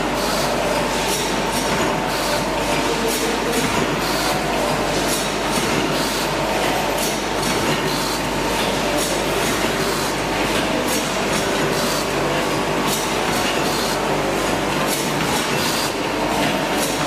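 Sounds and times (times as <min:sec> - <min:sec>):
filling machine running: 0:00.0 - 0:17.0.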